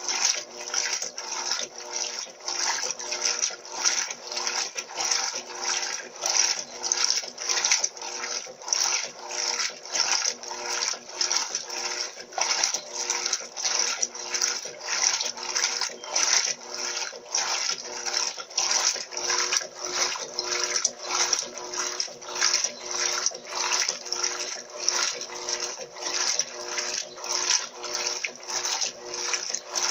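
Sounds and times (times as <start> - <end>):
faint motor hum: 0.0 - 29.9
washing machine water sloshing: 0.0 - 29.9.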